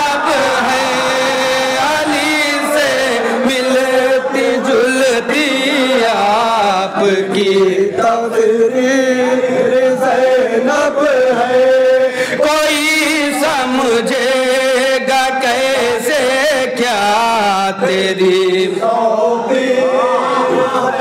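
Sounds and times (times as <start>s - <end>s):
men singing devotional song: 0.0s - 21.0s.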